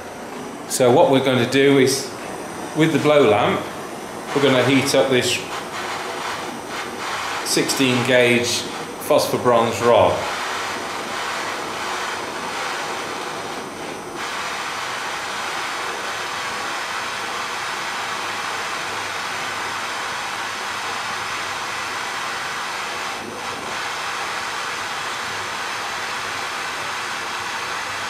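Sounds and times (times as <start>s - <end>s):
blow lamp flame hissing: 0.0s - 28.0s.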